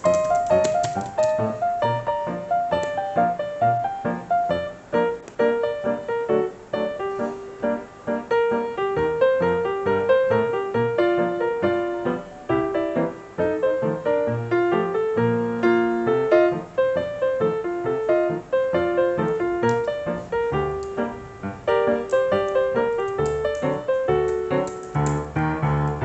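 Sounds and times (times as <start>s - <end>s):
piano music with steady beat: 0.0s - 26.0s.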